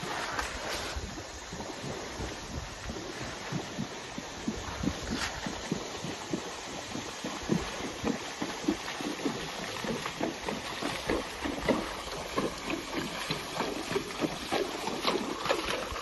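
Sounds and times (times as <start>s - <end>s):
hooves splashing through water: 0.0s - 16.0s.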